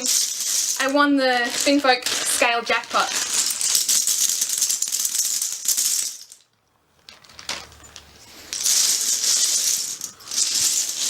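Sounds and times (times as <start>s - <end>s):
plastic scales clattering together: 0.0s - 11.0s.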